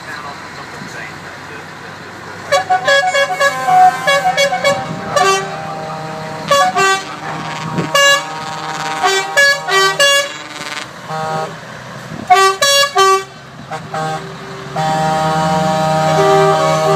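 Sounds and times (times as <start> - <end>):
truck engines rumbling: 0.0 - 16.9
truck horns tooting: 2.4 - 16.9.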